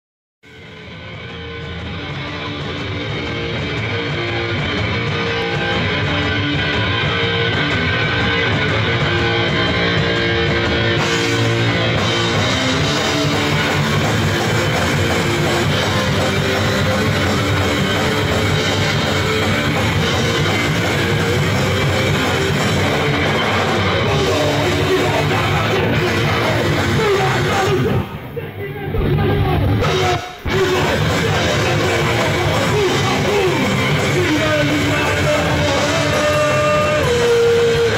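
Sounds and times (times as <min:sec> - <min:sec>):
rock band playing: 0:00.4 - 0:37.9.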